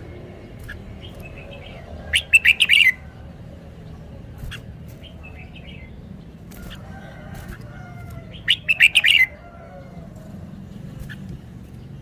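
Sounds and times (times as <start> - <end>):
bulbul singing: 0.0 - 12.0.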